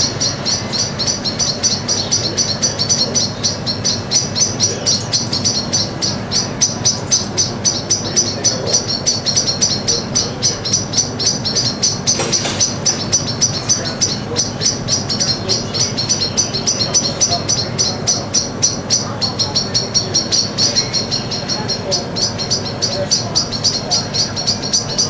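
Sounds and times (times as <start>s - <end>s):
birds chirping rapidly: 0.0s - 25.0s.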